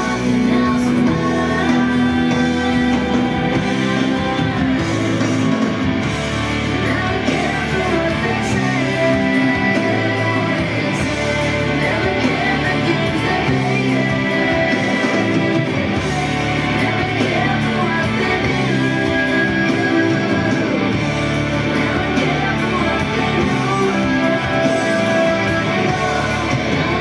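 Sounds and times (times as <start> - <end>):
waltz music with singing: 0.0 - 27.0.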